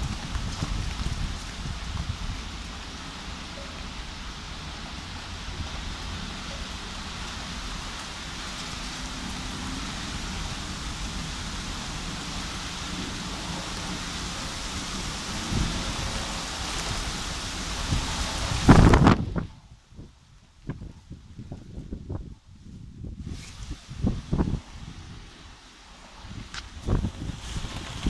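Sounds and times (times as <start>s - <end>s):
heavy rain hissing: 0.0s - 20.2s, 20.8s - 28.0s
low rumble of thunder: 0.0s - 23.2s.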